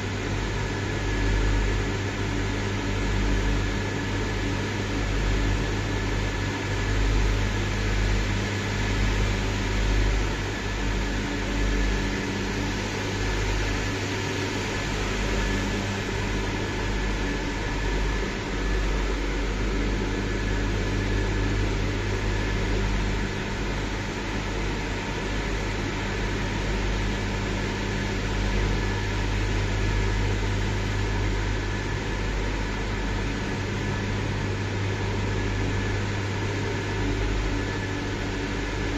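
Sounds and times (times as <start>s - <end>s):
electric fans droning: 0.0s - 38.9s.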